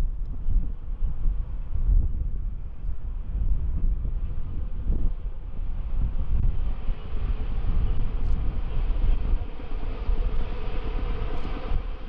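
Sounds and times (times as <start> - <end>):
faint diesel locomotive drone: 0.0 - 12.0
wind buffeting microphone: 0.0 - 12.0.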